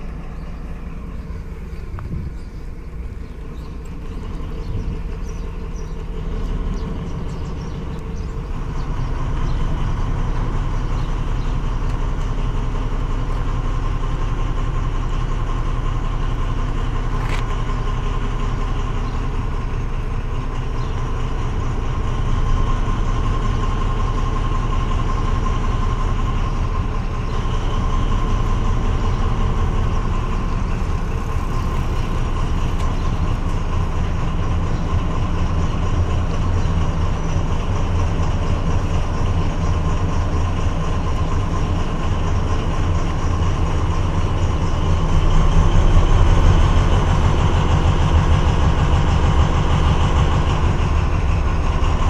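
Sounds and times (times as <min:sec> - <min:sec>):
diesel locomotive rumble and whine: 0:00.0 - 0:52.0.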